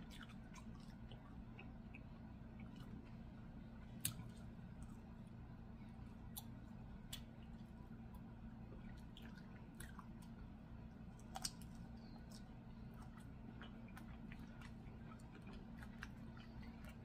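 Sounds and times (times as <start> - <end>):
low steady hum: 0.0 - 17.0
quiet chewing with clicks: 0.0 - 17.0.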